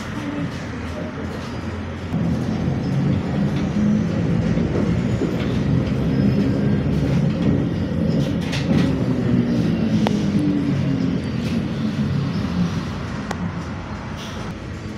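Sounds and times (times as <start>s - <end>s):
road and body noise: 0.0s - 14.9s.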